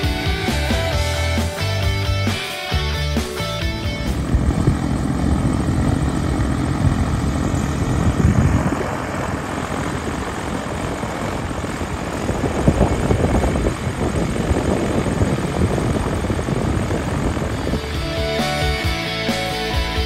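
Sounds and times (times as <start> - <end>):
light airplane engine droning: 0.0 - 20.0.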